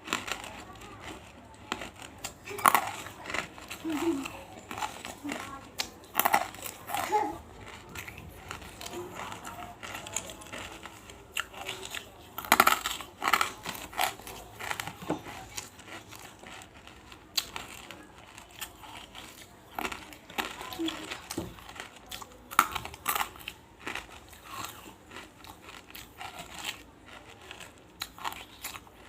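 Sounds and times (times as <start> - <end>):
crunching hard pieces in mouth: 0.0 - 29.0.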